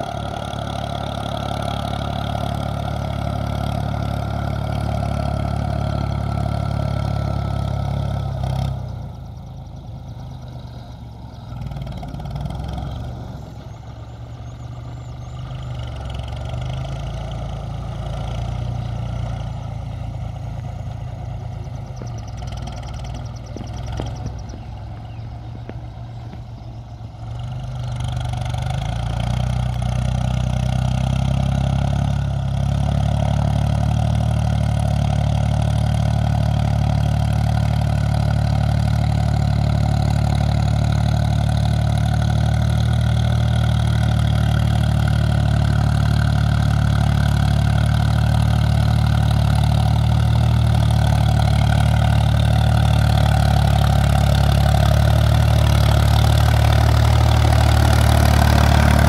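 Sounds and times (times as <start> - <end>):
tractor diesel engine working: 0.0 - 59.0.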